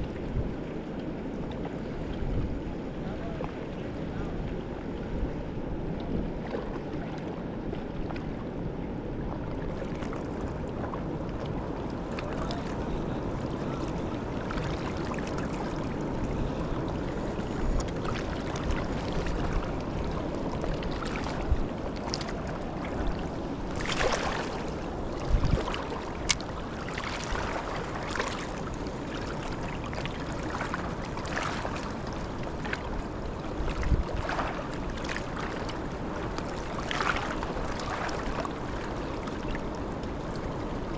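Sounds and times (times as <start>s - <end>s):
fast-flowing river water: 0.0s - 40.9s.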